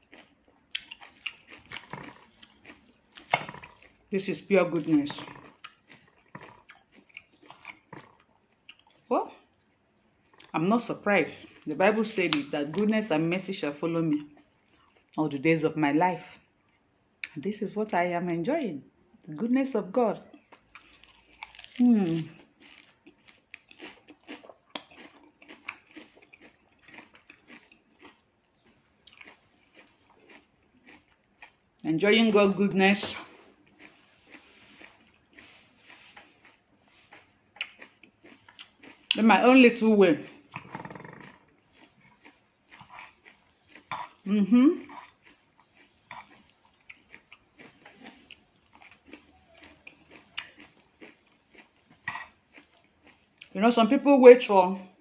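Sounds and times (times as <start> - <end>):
wet crunching and chewing: 0.0 - 15.2, 20.2 - 53.6.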